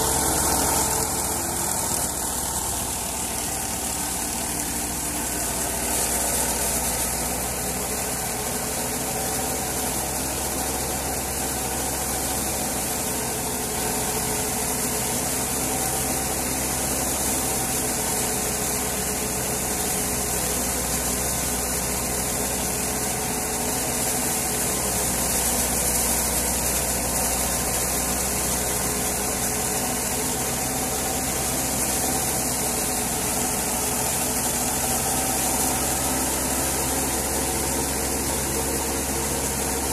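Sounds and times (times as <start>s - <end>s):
thresher running with hiss: 0.0s - 39.9s
tractor engine running: 0.0s - 39.9s.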